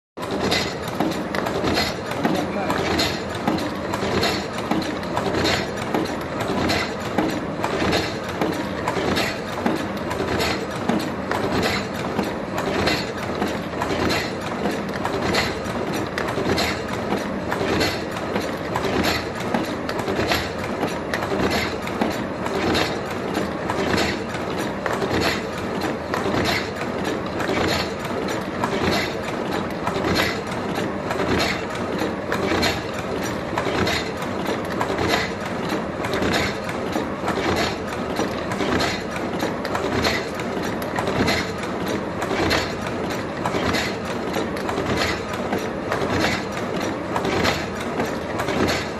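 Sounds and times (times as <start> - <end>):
food forming machine clattering: 0.2 - 48.9
sharp machine clack: 0.2 - 48.9.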